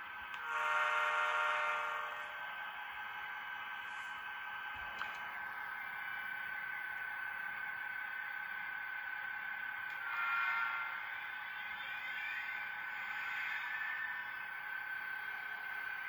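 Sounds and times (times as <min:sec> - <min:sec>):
model train motor whine: 0:00.3 - 0:16.0.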